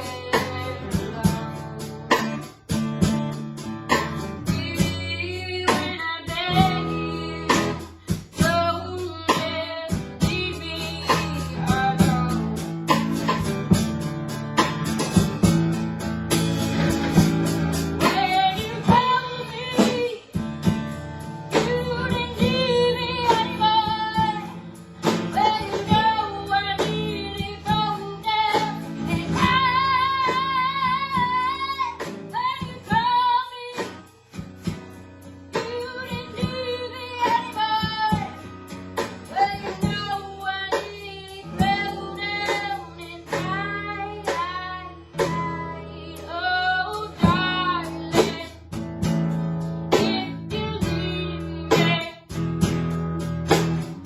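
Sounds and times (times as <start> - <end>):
woman singing: 0.0 - 2.6, 4.0 - 13.5, 17.8 - 34.2, 35.5 - 48.8, 49.8 - 52.4
acoustic guitar: 0.0 - 54.0.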